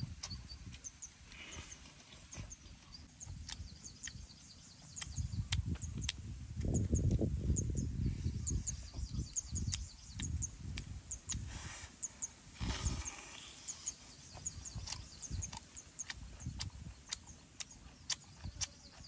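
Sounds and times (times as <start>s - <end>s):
man chewing: 0.0s - 7.3s, 8.7s - 19.0s.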